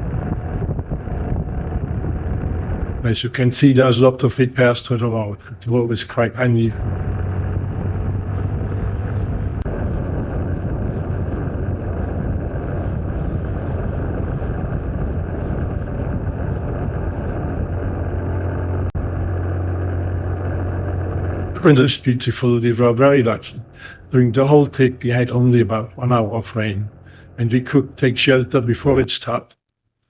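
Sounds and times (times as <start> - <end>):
motorcycle engine running: 0.0 - 3.1, 4.7 - 28.2
road and wind noise: 0.0 - 29.1.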